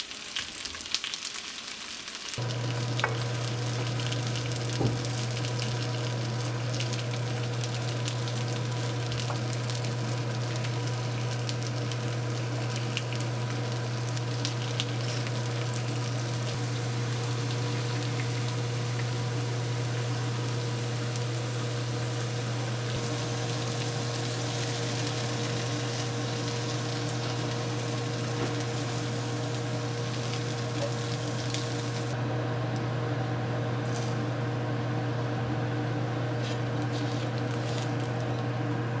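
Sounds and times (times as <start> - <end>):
food frying and sizzling: 0.0 - 39.0.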